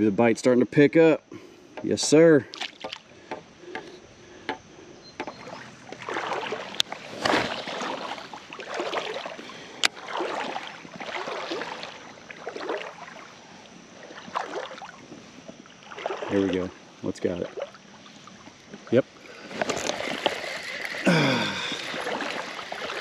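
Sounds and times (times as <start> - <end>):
sloshing water from wading: 2.4 - 3.2, 5.2 - 23.0.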